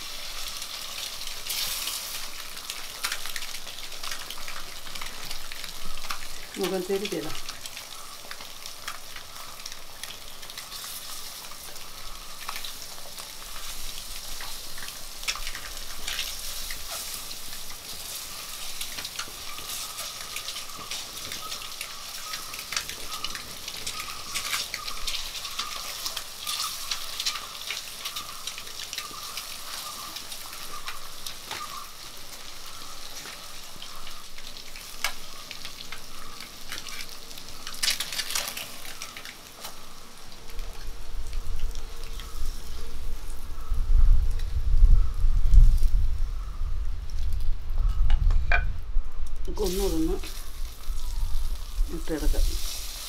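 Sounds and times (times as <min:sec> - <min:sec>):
eggs sizzling in hot oil: 0:00.0 - 0:44.6, 0:49.3 - 0:53.0.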